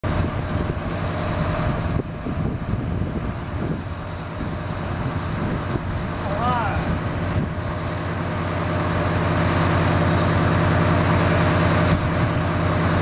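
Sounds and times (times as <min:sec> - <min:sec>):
radial aircraft engines rumbling: 0:00.0 - 0:13.0.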